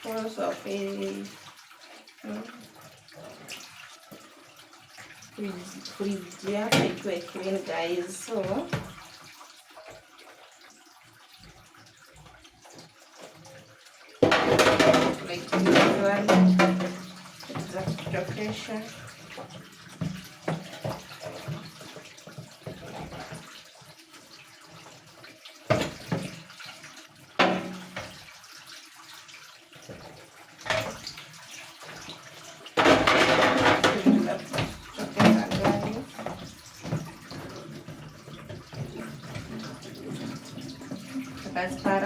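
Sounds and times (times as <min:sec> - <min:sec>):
scrubbing and sloshing water: 0:00.0 - 0:42.0
water splashing: 0:00.0 - 0:42.0.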